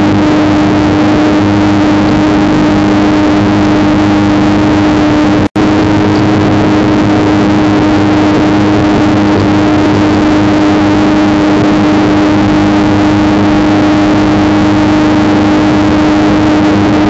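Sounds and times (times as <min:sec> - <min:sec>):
mower engine drone: 0:00.0 - 0:17.0.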